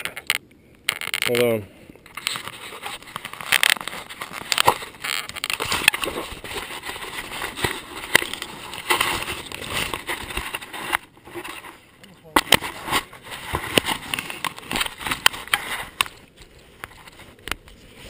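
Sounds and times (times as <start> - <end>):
fabric rustling against camera: 2.1 - 18.0.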